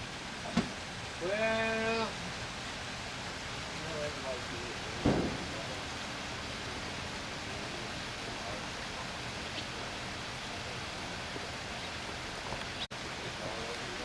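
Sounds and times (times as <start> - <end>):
light rain hissing: 0.0 - 14.0.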